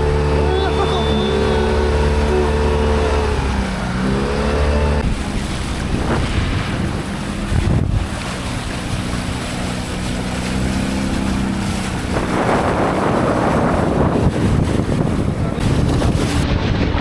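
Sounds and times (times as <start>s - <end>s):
rushing wind and water: 0.0s - 17.0s
speedboat engine running: 0.0s - 17.0s
wind buffeting microphone: 1.1s - 17.0s.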